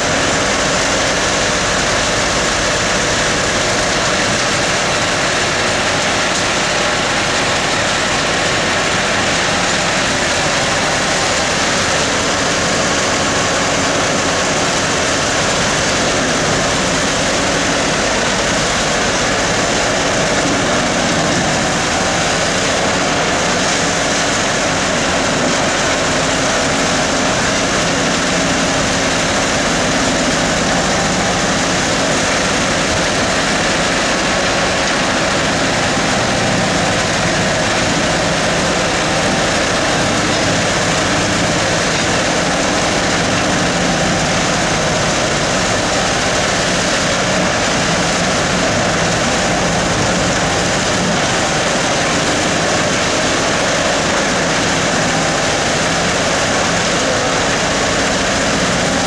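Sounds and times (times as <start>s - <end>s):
excavator diesel engine: 0.0s - 59.0s
wood grinder running: 0.0s - 59.0s.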